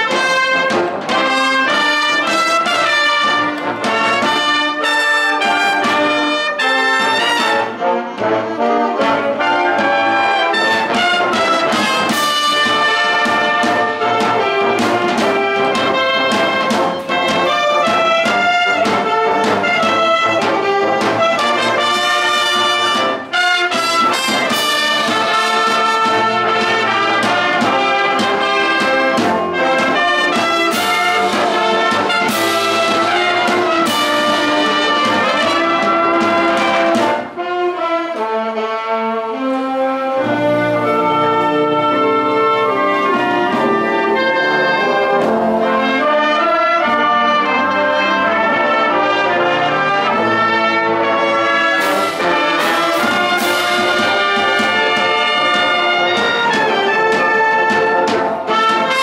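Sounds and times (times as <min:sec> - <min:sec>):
brass instruments: 0:00.0 - 0:59.0
wind band playing: 0:00.0 - 0:59.0.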